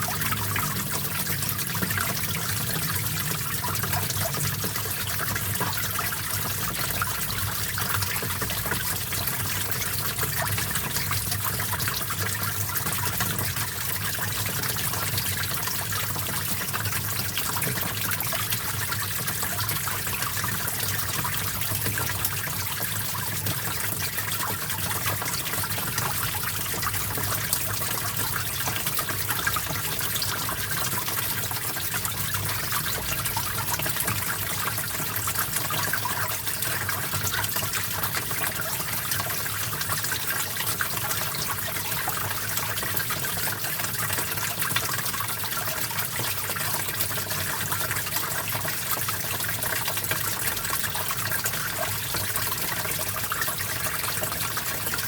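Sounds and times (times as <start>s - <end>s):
stream trickling over rocks: 0.0s - 55.0s.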